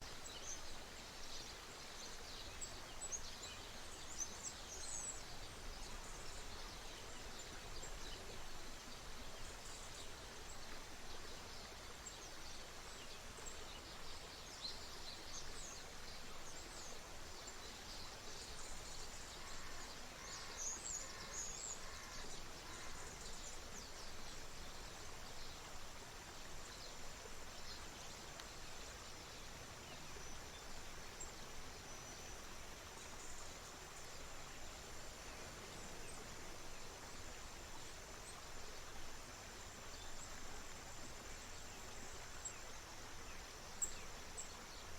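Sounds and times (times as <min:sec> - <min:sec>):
stream running: 0:00.0 - 0:44.9.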